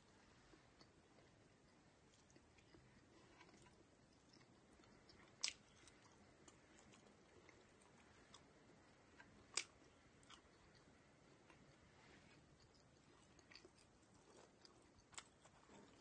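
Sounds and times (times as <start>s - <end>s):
faint crunchy chewing: 0.0s - 16.0s.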